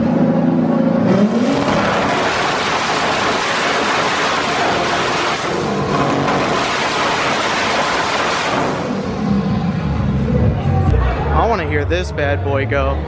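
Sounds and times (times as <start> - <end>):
car engine revving: 0.0 - 10.8
rough exhaust noise: 0.0 - 11.8.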